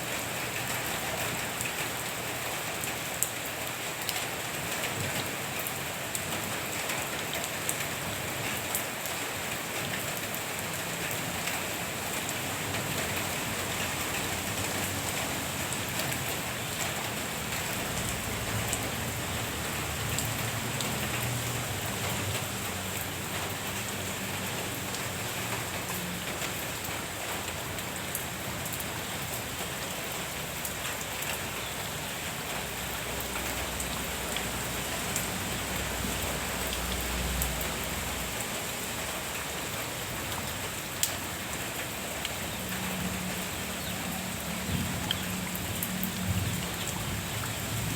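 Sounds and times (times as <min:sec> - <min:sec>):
rain on leaves and ground: 0:00.0 - 0:47.9.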